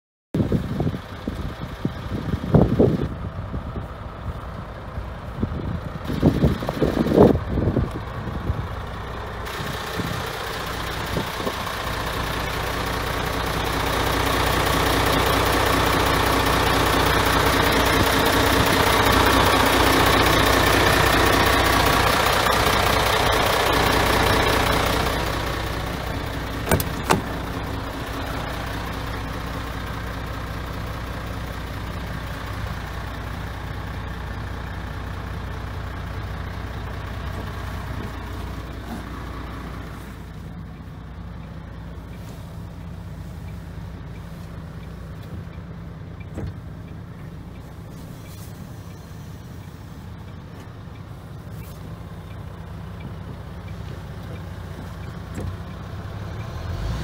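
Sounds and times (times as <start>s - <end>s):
truck diesel engine idling: 0.4s - 57.0s.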